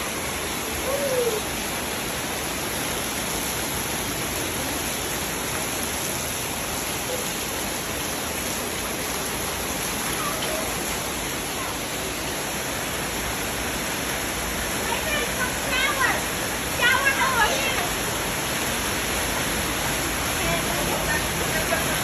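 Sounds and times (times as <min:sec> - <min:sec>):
rainwater splashing on tiled floor: 0:00.0 - 0:22.0.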